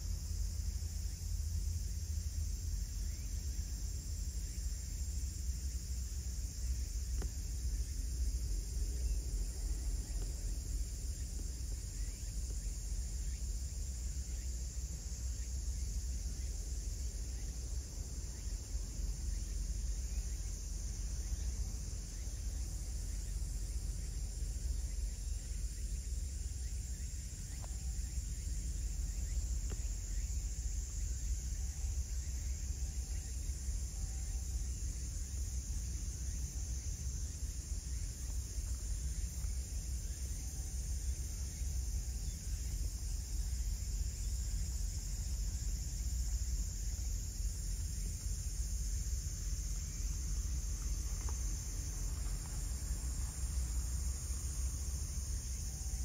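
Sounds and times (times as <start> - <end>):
crickets chirring: 0.0 - 56.0.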